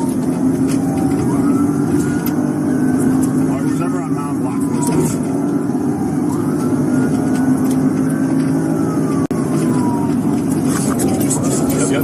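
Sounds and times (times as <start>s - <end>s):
car engine and road drone: 0.0s - 12.0s
police siren wailing: 0.0s - 12.0s.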